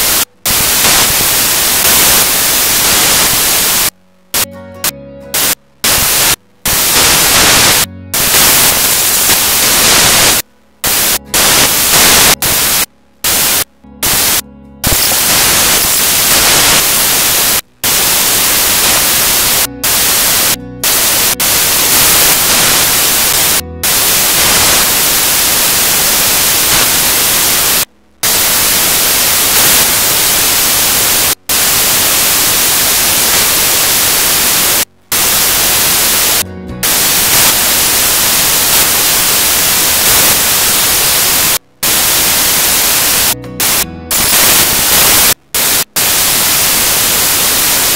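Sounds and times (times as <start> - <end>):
loud static hiss: 0.0 - 47.9.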